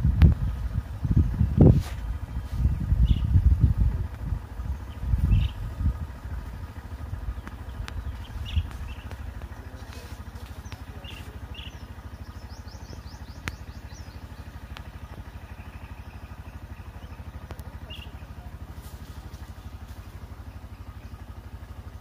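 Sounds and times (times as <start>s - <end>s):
small engine idling: 0.0s - 22.0s.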